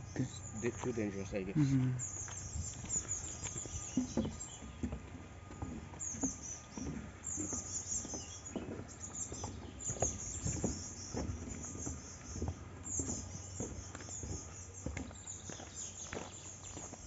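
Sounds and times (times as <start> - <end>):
birds chirping: 0.0 - 17.0
footsteps on a path: 0.0 - 17.0.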